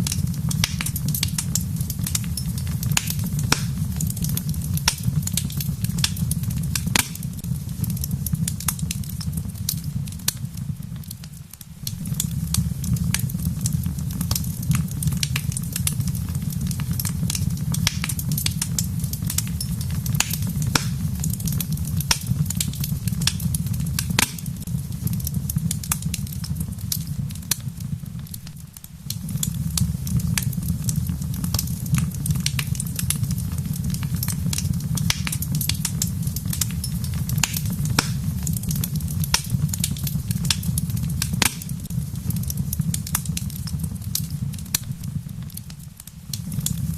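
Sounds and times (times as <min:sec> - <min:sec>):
rain pattering: 0:00.0 - 0:46.9
wood fire crackling and popping: 0:00.0 - 0:46.9.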